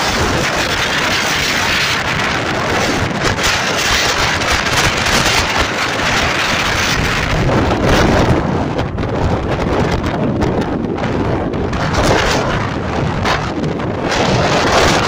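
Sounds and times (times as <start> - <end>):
surf breaking on shore: 0.0 - 15.0
wind buffeting microphone: 0.0 - 15.0.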